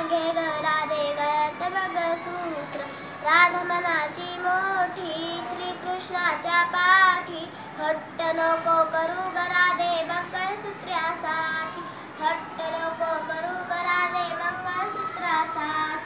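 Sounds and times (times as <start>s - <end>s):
girl singing folk song: 0.0s - 16.0s.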